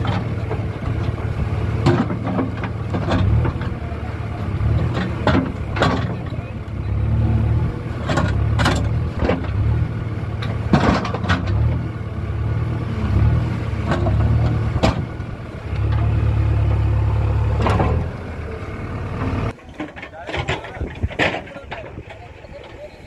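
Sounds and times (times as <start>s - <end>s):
diesel engine under load: 0.0s - 23.0s.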